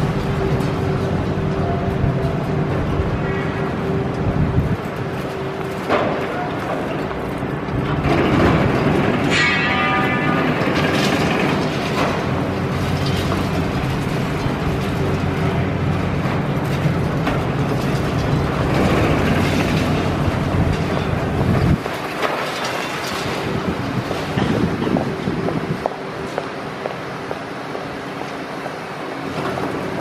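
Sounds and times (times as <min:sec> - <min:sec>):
excavator diesel engine: 0:00.0 - 0:30.0.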